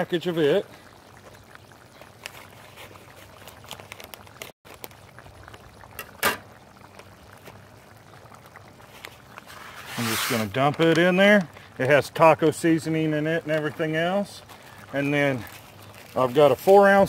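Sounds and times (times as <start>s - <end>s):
sauce boiling with small pops: 0.0s - 17.0s.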